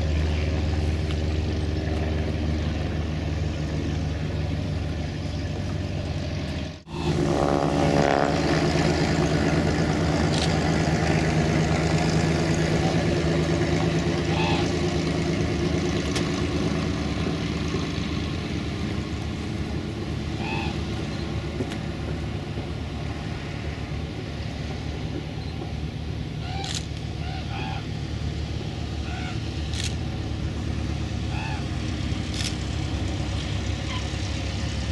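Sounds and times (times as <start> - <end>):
propeller plane engine running: 0.0 - 34.9.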